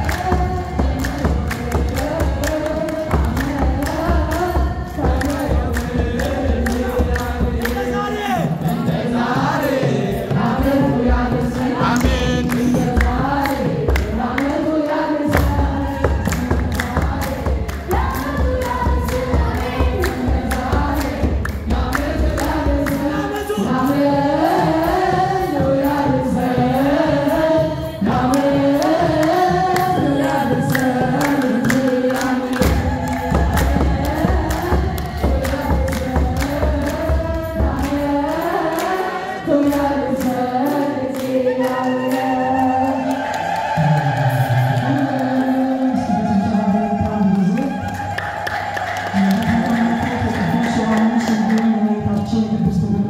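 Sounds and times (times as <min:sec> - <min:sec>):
group singing a hymn: 0:00.0 - 0:53.0
steady percussive beat: 0:00.0 - 0:53.0.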